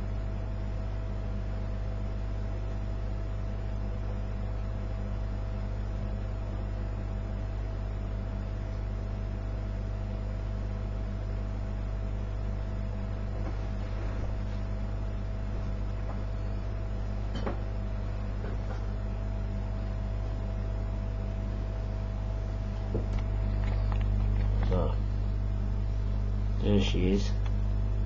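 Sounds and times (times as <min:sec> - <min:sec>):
computer equipment whine: 0:00.0 - 0:28.0
low electrical hum: 0:00.0 - 0:28.0.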